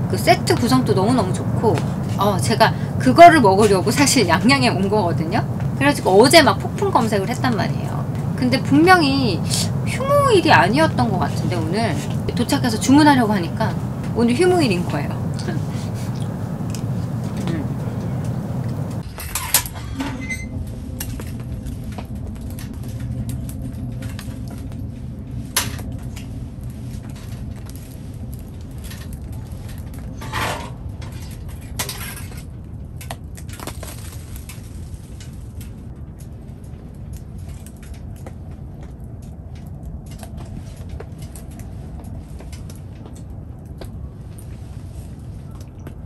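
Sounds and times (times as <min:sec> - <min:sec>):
steady low rumble: 0:00.0 - 0:46.0.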